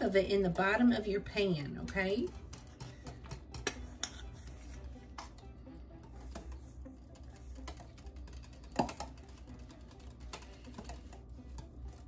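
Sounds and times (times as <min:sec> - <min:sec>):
spoon scraping metal bowl: 0:01.6 - 0:12.0
whisk tapping glass jug: 0:01.8 - 0:12.0.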